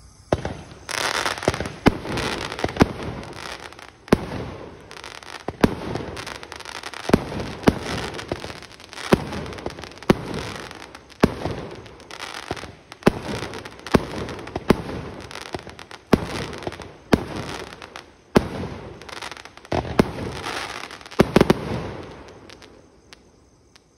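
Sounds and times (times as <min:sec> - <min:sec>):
firework crackle: 0:00.0 - 0:23.9
firework bangs: 0:00.3 - 0:22.8.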